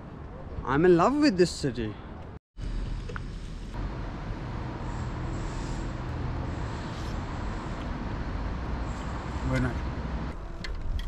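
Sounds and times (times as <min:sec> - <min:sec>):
road noise rumble and hiss: 0:00.0 - 0:11.0.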